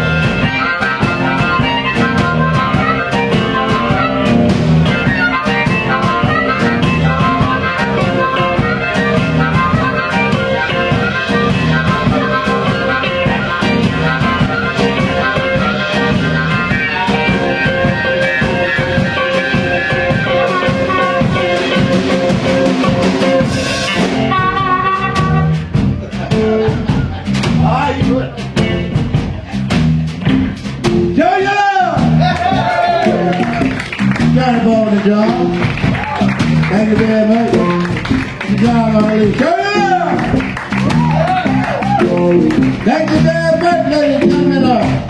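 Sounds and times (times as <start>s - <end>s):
electric guitar: 0.0s - 31.2s, 31.9s - 45.0s
drum kit: 0.0s - 45.0s.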